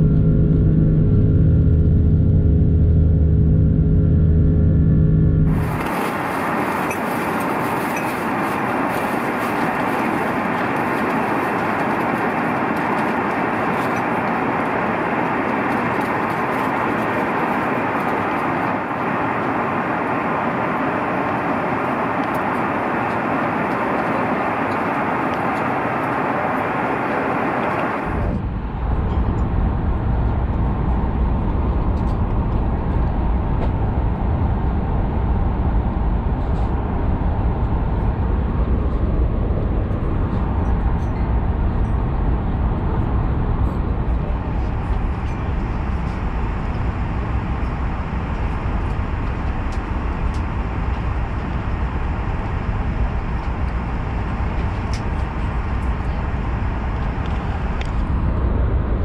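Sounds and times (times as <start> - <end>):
airliner cabin drone: 0.0 - 59.0.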